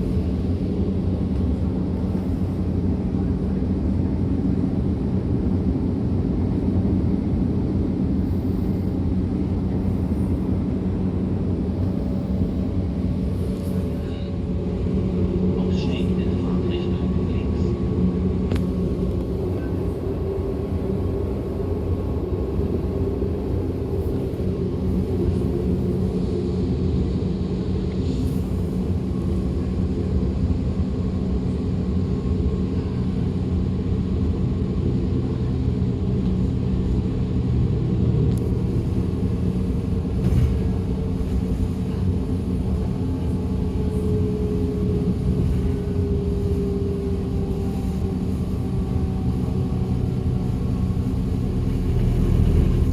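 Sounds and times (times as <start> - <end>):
train wheels rumbling on track: 0.0 - 52.9.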